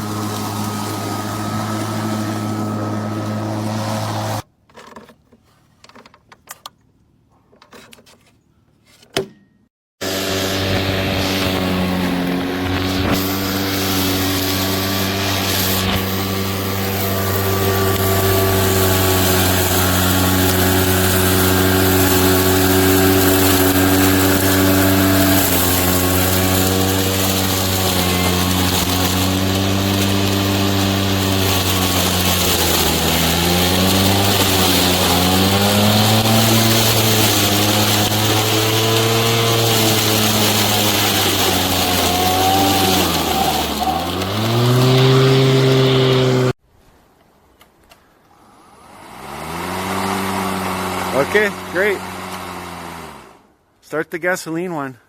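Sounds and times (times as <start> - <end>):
lawn mower running: 0.0 - 4.5, 10.0 - 46.6, 48.8 - 53.5.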